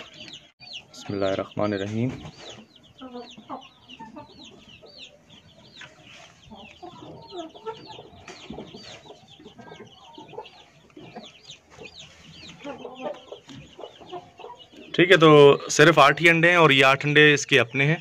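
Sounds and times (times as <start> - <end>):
chickens clucking: 0.0 - 18.0
chicks peeping: 0.0 - 18.0.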